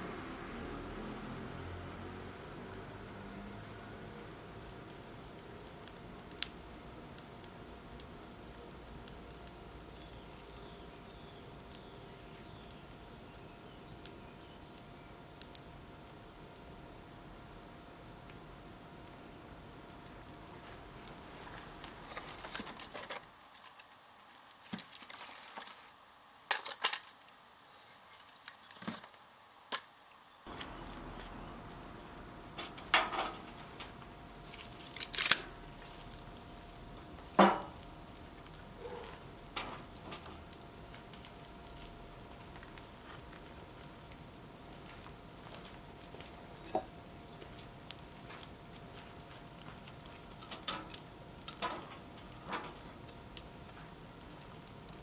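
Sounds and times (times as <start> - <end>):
wood fire crackling and popping: 0.0 - 27.4, 28.1 - 55.0.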